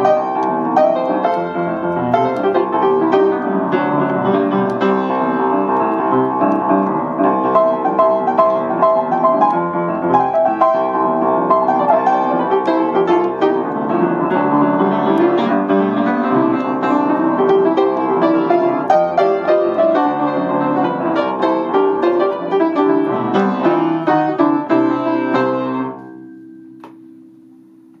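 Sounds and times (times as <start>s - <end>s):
piano playing: 0.0s - 27.4s.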